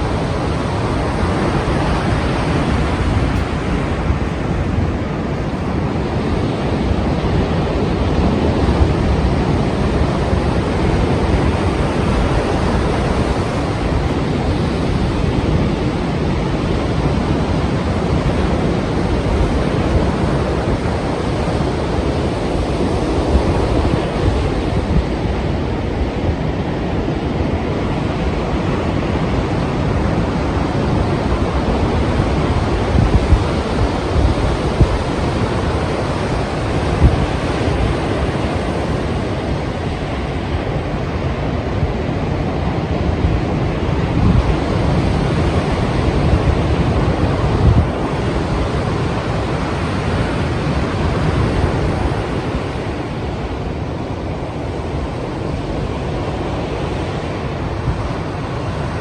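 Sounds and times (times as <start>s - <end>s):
sea waves breaking: 0.0s - 59.0s
wind buffeting microphone: 0.0s - 59.0s.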